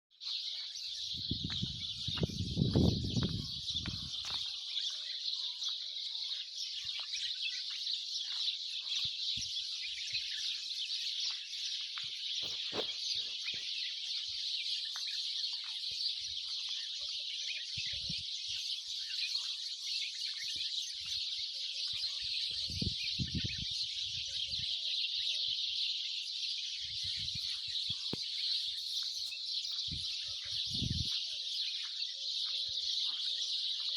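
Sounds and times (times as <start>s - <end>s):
many small birds chirping: 0.1s - 33.9s.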